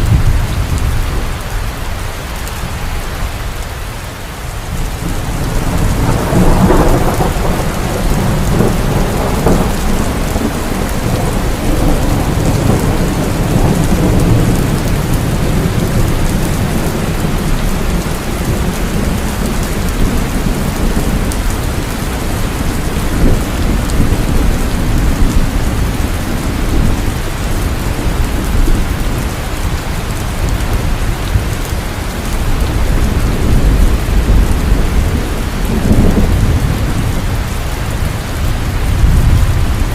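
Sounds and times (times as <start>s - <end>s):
rolling thunder: 0.0s - 1.6s, 4.6s - 39.9s
heavy rain falling: 0.0s - 39.9s.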